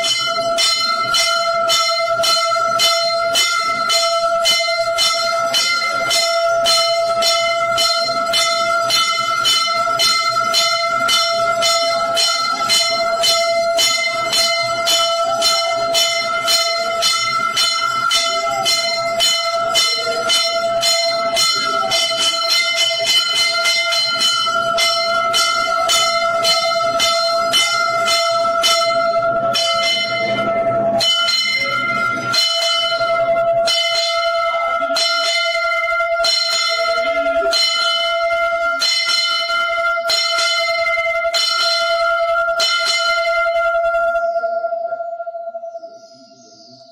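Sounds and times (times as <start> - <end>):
bells ringing rapidly: 0.0 - 46.9.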